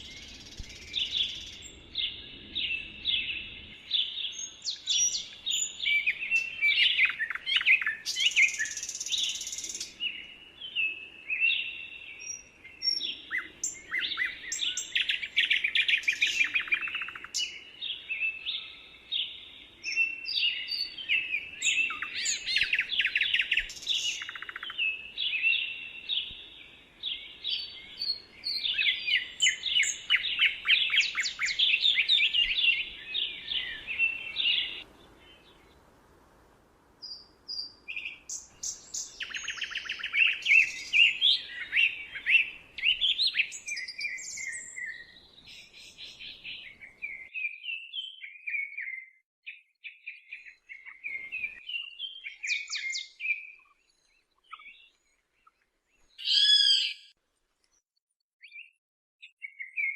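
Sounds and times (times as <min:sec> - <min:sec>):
songbirds singing: 0:00.0 - 0:36.1, 0:37.0 - 0:57.8, 0:58.4 - 0:59.9.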